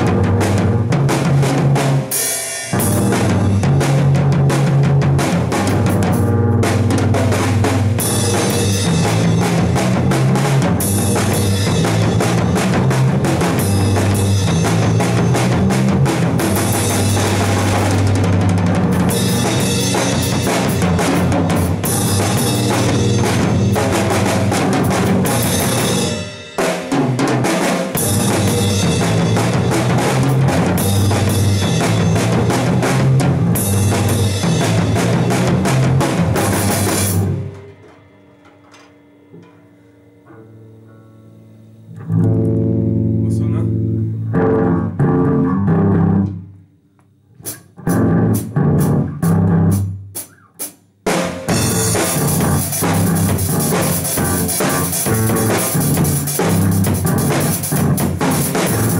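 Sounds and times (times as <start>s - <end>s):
driving bass line: 0.0s - 26.2s, 27.0s - 38.0s, 40.4s - 46.6s, 47.4s - 50.2s, 51.1s - 58.9s
drum kit beat: 0.0s - 40.3s, 47.4s - 58.9s
rock band playing: 0.0s - 46.4s, 47.4s - 58.9s.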